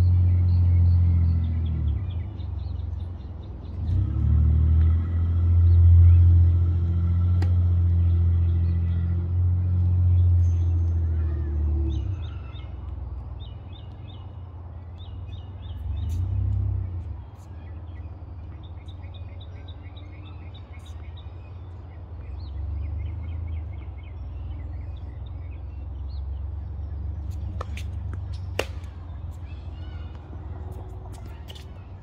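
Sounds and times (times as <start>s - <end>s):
low rumble of distant traffic: 0.0s - 32.0s
birds chirping: 5.3s - 32.0s.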